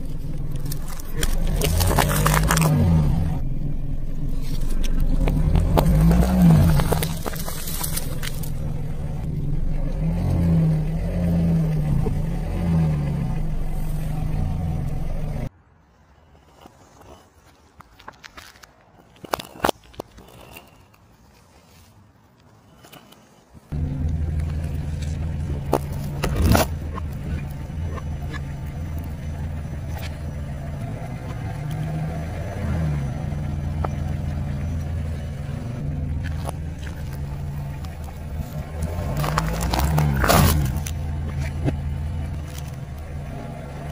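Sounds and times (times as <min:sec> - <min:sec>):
car engine running: 0:00.0 - 0:15.5, 0:23.7 - 0:43.9.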